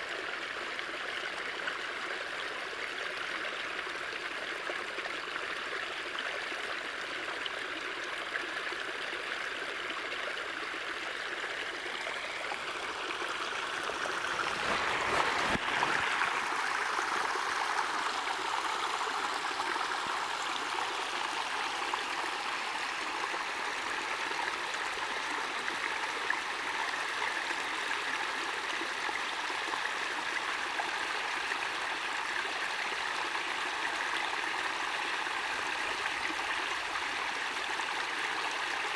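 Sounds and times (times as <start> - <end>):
water trickling over logs: 0.0 - 38.9.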